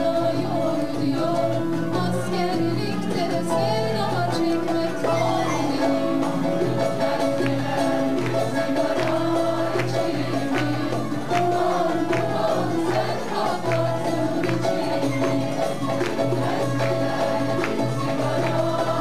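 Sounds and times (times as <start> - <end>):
hand percussion: 0.0 - 19.0
mixed choir singing: 0.0 - 19.0
plucked strings: 0.0 - 19.0.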